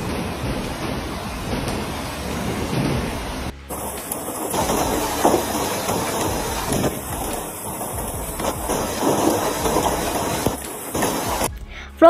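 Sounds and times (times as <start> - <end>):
hail and heavy rain pelting: 0.0 - 11.6.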